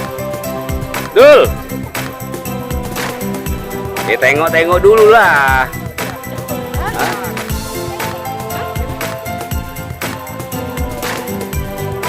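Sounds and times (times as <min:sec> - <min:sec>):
music with held notes and drums: 0:00.0 - 0:12.0.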